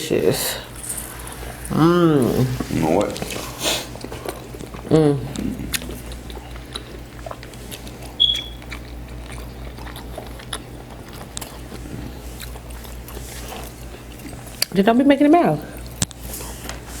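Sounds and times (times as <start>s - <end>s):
chewing and biting: 2.4s - 14.8s, 15.6s - 17.0s.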